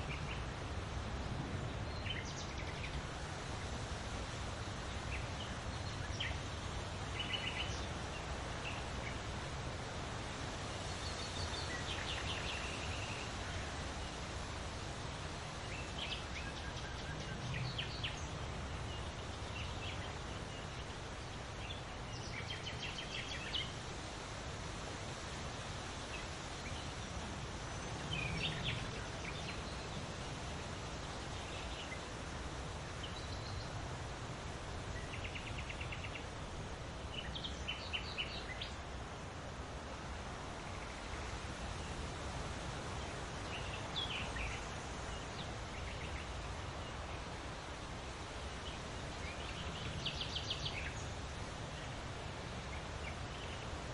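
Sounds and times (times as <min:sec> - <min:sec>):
low wind rumble: 0:00.0 - 0:53.9
wind rustling through leaves: 0:00.0 - 0:53.9.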